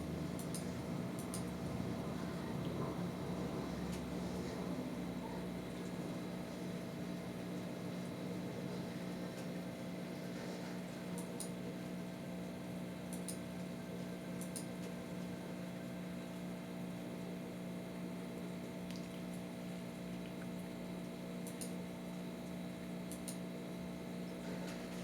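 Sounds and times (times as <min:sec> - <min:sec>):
computer electrical hum: 0:00.0 - 0:25.0.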